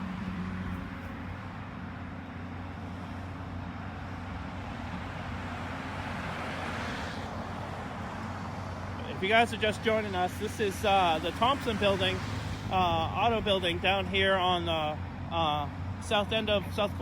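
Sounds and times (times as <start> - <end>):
diesel machinery droning: 0.0 - 17.0
vehicle rumble: 0.0 - 17.0.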